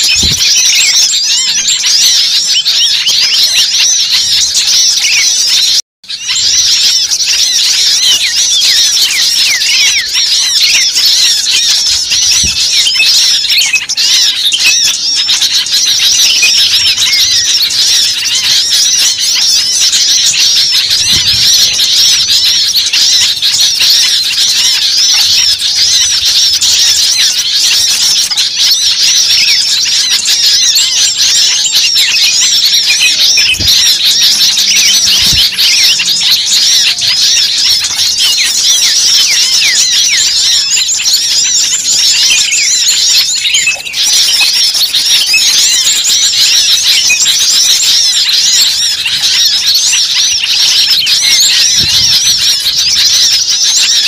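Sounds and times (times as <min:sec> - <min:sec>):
songbirds chirping and squeaking: 0:00.0 - 0:54.0.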